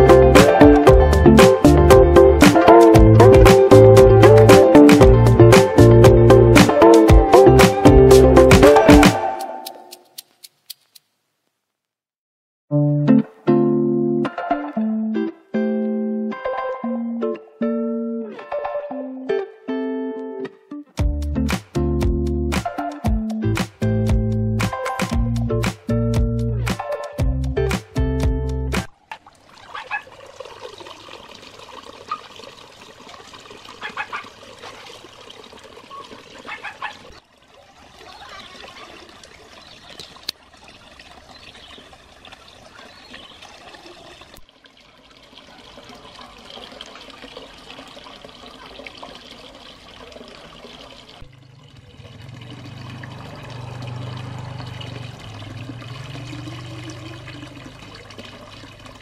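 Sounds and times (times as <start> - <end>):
water splashing into pond: 0.0 - 11.0, 21.2 - 28.0, 28.7 - 59.0.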